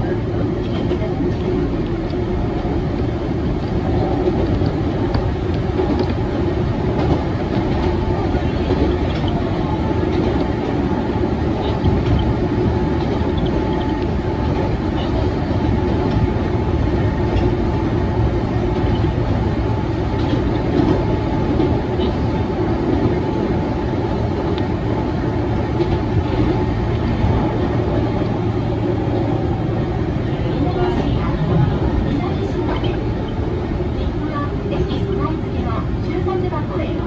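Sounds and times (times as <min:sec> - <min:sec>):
train wheels rumbling on rail: 0:00.0 - 0:37.0
track clicks: 0:00.6 - 0:35.2.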